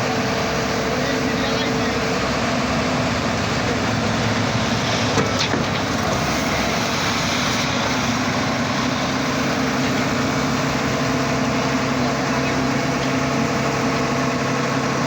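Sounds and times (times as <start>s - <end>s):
drilling machine engine running: 0.0s - 15.0s.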